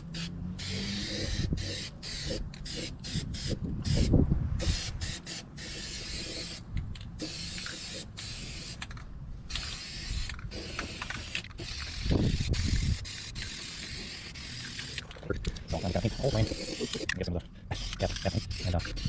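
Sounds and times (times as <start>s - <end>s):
aerosol spray can hissing: 0.0s - 6.6s, 7.2s - 8.9s, 9.5s - 15.0s, 15.8s - 17.1s, 17.7s - 19.0s.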